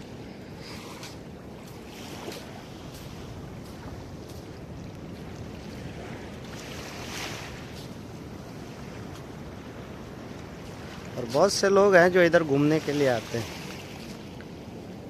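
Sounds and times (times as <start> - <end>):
small waves washing: 0.0 - 15.0
wind rumbling on microphone: 0.0 - 15.0.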